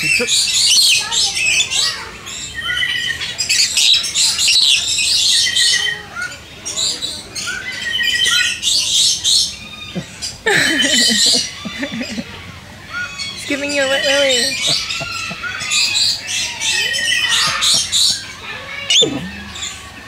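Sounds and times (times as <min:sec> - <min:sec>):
parrots chirping and squawking: 0:00.0 - 0:20.0.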